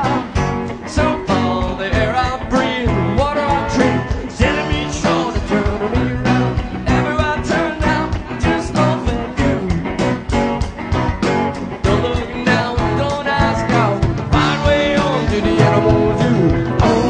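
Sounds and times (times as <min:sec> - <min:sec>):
song with guitar and singing: 0:00.0 - 0:17.0.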